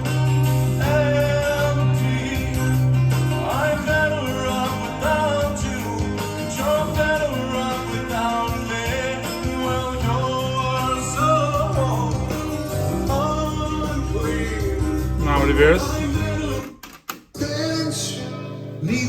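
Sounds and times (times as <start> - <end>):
rock song with vocals and guitar: 0.0 - 19.0.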